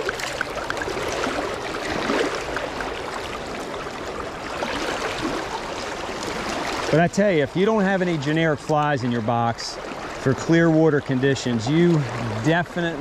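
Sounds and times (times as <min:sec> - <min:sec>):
river water running over riffle: 0:00.0 - 0:13.0.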